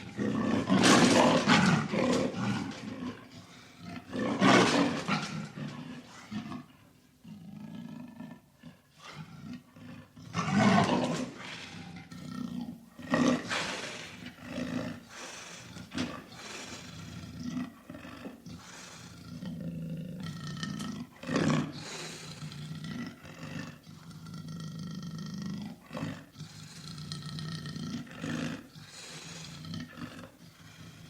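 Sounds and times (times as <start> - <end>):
leopard growling: 0.0 - 31.0
leopard roaring: 0.0 - 31.0.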